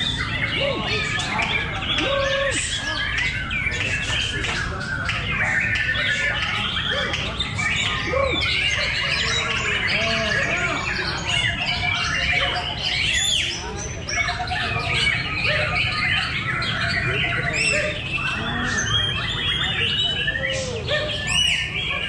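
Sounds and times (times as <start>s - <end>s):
songbirds singing: 0.0s - 22.0s.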